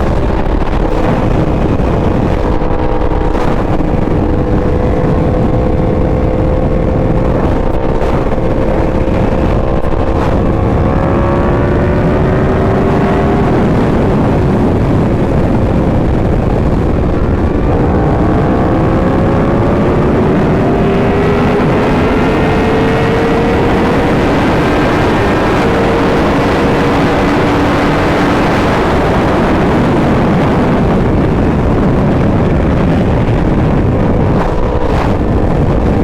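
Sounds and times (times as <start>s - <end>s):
motorcycle engine cruising: 0.0s - 36.0s
wind rush: 0.0s - 36.0s.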